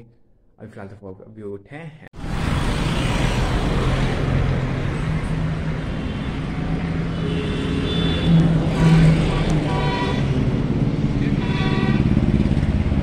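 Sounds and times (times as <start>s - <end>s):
road noise: 2.2s - 13.0s
vehicle engine hum: 2.2s - 13.0s.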